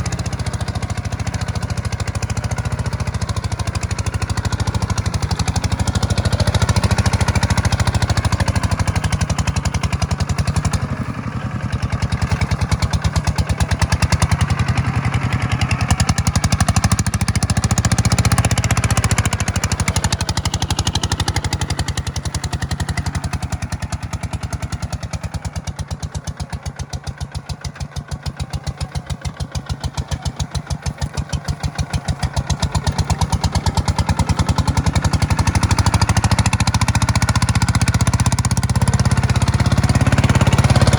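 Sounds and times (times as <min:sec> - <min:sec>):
tractor engine plowing: 0:00.0 - 0:40.9.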